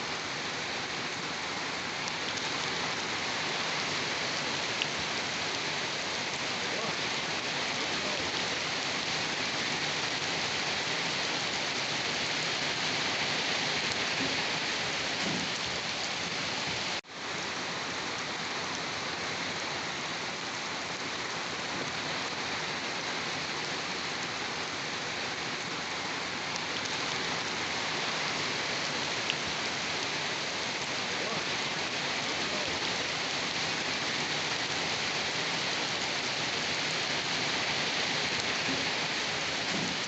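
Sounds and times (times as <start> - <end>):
dense rain hissing: 0.0 - 40.0.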